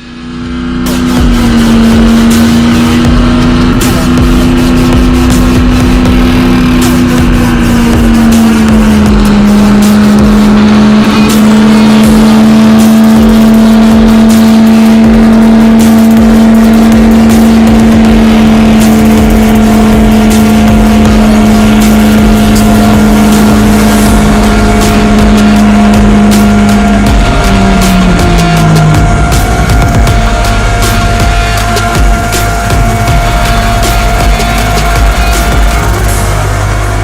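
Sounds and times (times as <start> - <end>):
pickup truck engine droning: 0.0 - 37.0.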